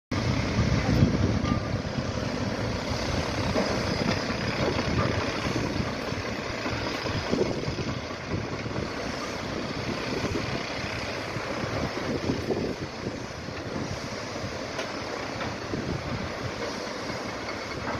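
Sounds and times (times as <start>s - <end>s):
wind noise on microphone: 0.1s - 17.9s
distant excavator engine rumble: 0.2s - 17.9s.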